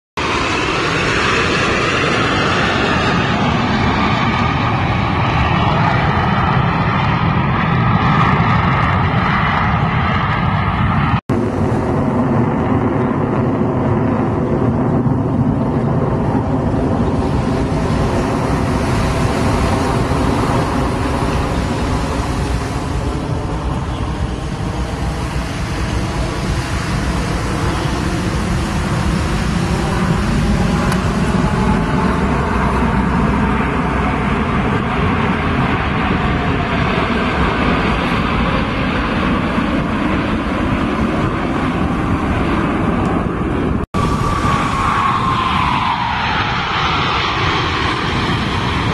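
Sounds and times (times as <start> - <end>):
jets flying overhead: 0.2 - 48.9.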